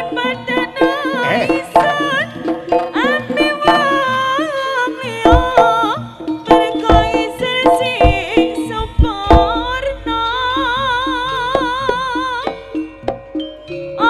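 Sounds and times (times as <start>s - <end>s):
sharp drum strokes: 0.0s - 4.3s, 5.1s - 13.2s
gamelan: 0.0s - 14.0s
wavering melody line: 0.0s - 14.0s.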